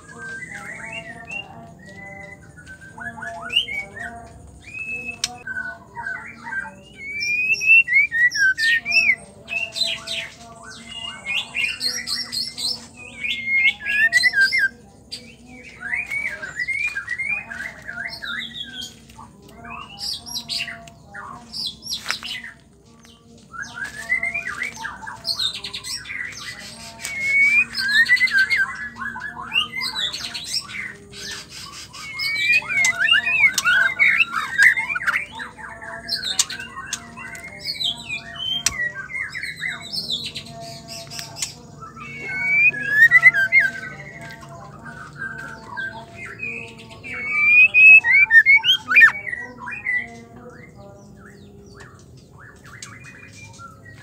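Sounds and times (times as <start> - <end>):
bird singing chirps and whistles: 0.0 - 19.0, 21.5 - 54.0.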